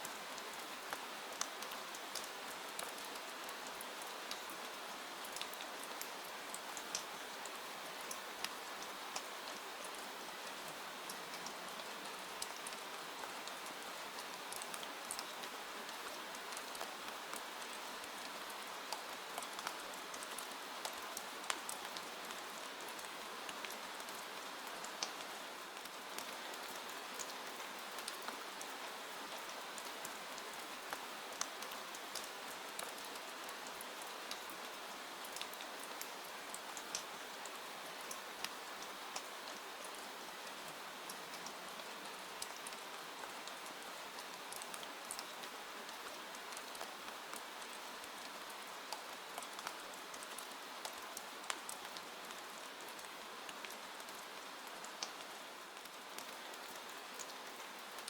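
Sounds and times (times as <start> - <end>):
raindrops ticking on a surface: 0.0 - 58.0.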